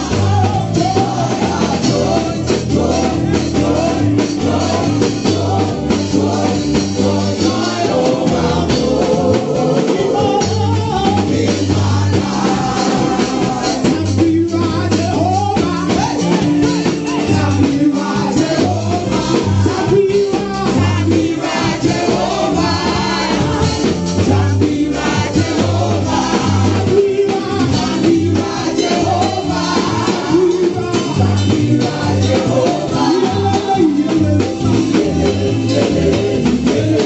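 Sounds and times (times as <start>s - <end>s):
band with repeating bass line: 0.0s - 37.0s
person singing gospel: 0.0s - 37.0s.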